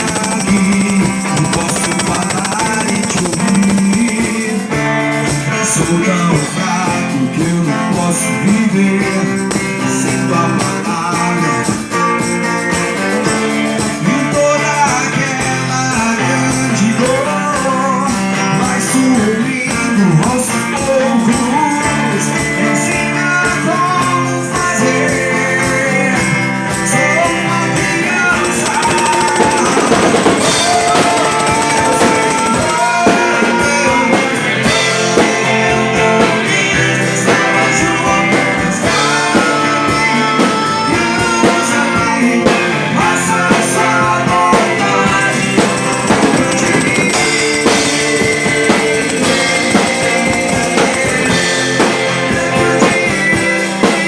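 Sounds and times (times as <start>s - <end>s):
band playing with guitar and drums: 0.0s - 54.0s.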